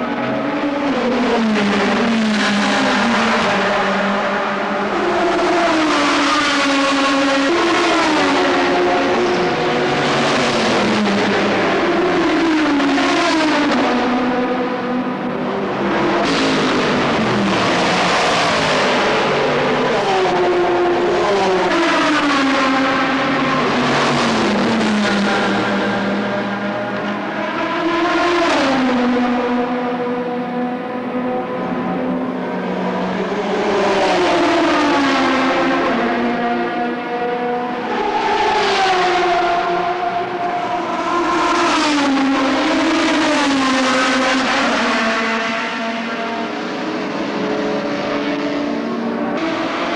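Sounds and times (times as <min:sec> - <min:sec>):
racing cars passing at speed: 0:00.0 - 0:49.9.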